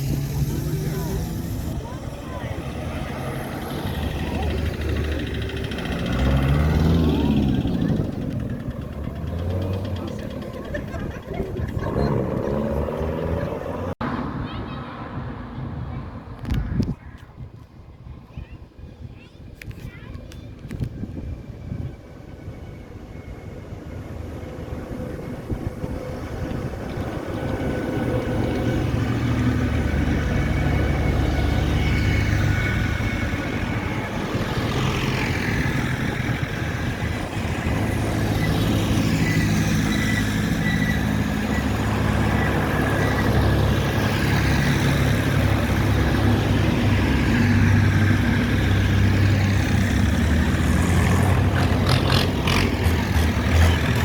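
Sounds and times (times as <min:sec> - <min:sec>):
tractor engines passing: 0:00.0 - 0:54.0.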